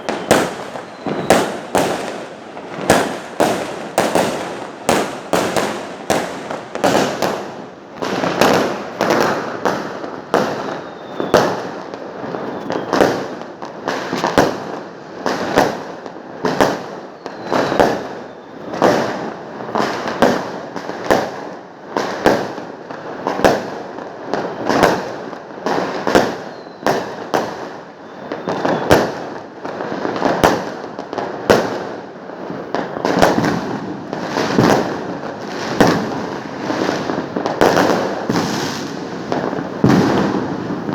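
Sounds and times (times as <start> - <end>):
fireworks bursting with echo: 0.0 - 40.9.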